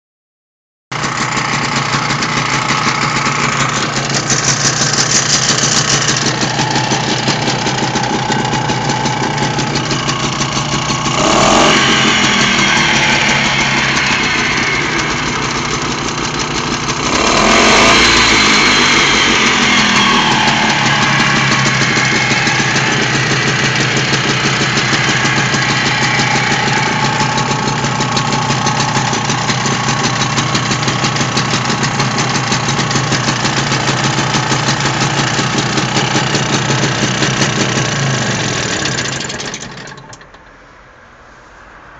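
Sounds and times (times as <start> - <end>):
outboard motor revving: 1.5 - 39.7.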